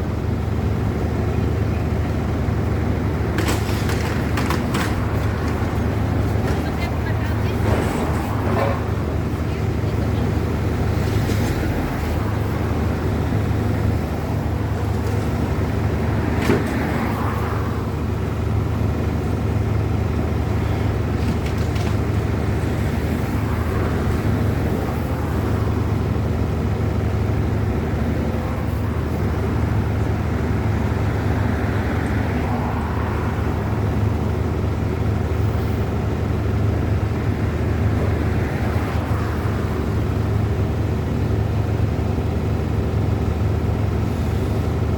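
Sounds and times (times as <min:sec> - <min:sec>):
low engine rumble: 0:00.0 - 0:44.9.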